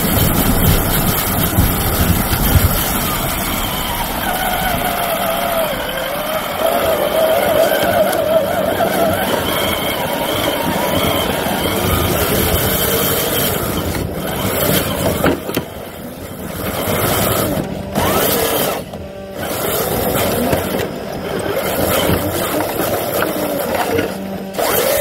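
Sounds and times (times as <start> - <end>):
electric motor whining: 0.0 - 25.0
steady mechanical hum: 0.0 - 25.0.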